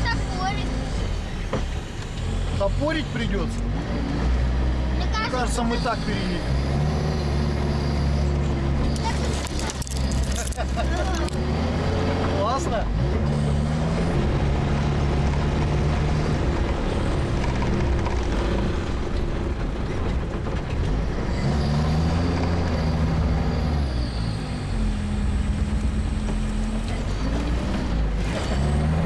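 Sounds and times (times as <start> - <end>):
all-terrain vehicle engine running: 0.0 - 29.0.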